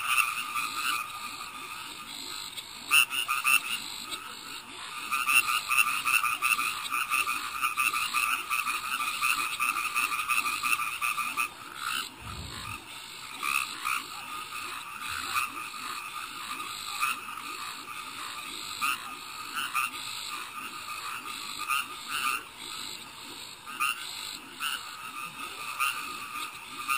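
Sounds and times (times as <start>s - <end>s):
frogs and toads calling: 0.0s - 26.9s.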